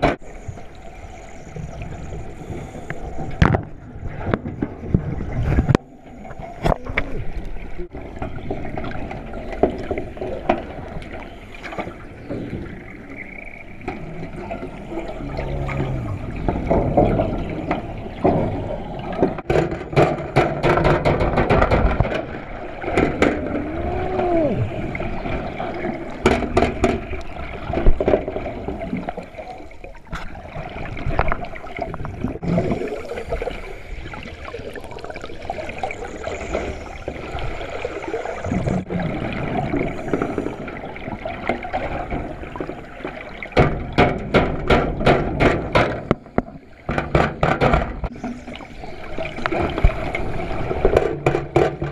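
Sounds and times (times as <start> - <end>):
muffled water churning and bubbling: 0.0 - 51.9.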